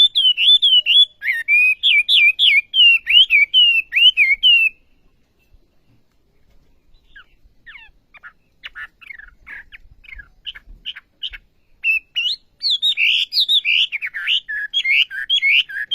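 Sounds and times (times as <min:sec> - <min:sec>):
bird chirping: 0:00.0 - 0:15.9.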